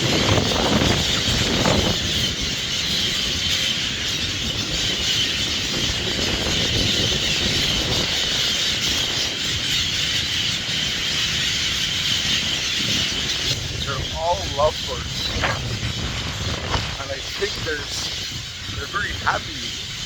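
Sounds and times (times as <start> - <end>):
parrots screeching and chattering: 0.4 - 20.0.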